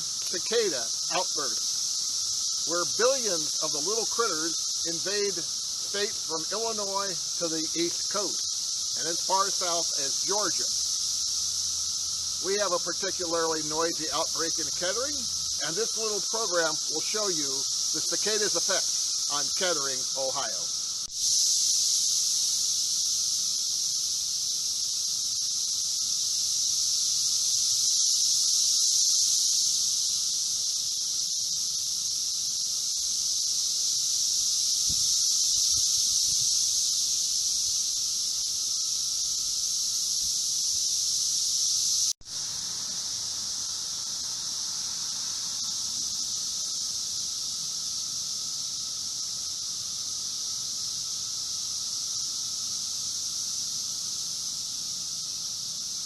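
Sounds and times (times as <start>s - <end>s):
cicadas droning: 0.0s - 56.0s.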